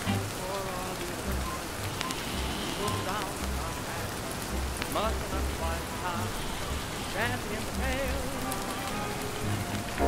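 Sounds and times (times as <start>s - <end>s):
muffled voices: 0.0s - 9.8s
faint low music: 0.0s - 10.0s
rain pattering: 0.0s - 10.0s.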